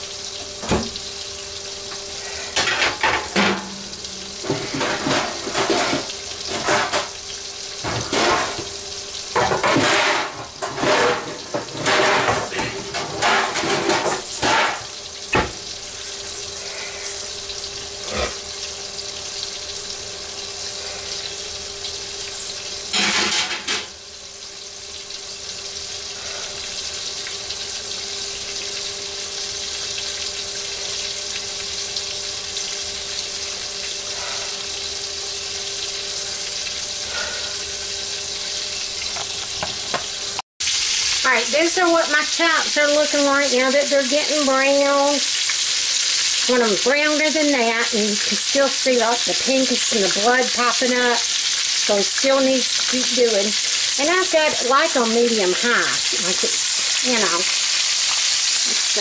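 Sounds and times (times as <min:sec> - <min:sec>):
meat sizzling in a pan: 0:00.0 - 0:59.0.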